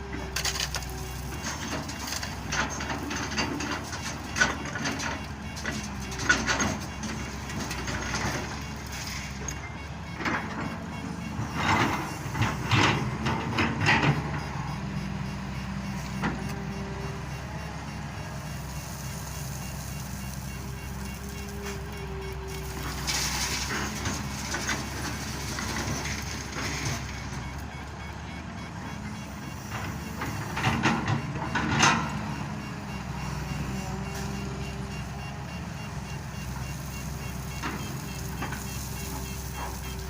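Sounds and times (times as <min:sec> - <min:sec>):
diesel machinery engine running: 0:00.0 - 0:40.0.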